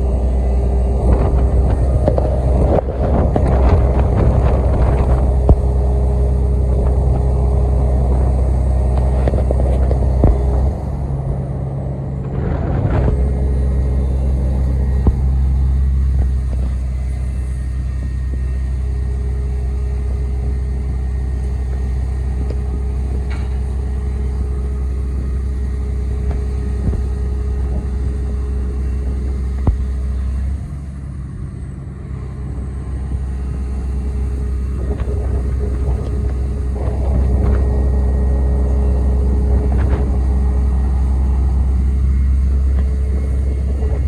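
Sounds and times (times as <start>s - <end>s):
excavator diesel engine rumble: 0.0s - 44.0s
steady high engine tone: 0.0s - 44.0s.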